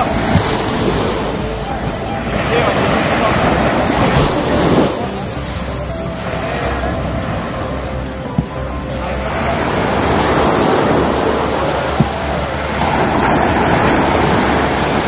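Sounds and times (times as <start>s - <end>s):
surf washing onto beach: 0.0s - 15.0s.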